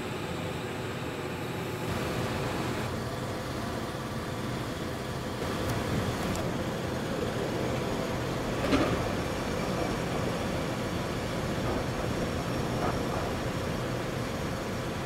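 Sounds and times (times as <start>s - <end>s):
train rumble and motor hum: 0.0s - 15.0s.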